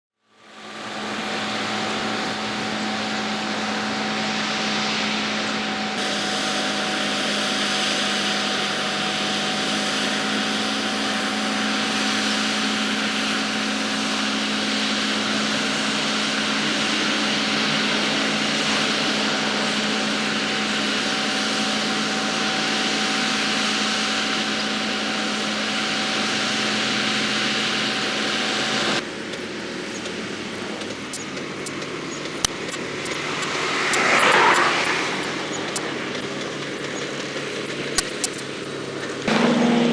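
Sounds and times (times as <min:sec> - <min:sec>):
construction machine engine whine: 0:00.2 - 0:39.9.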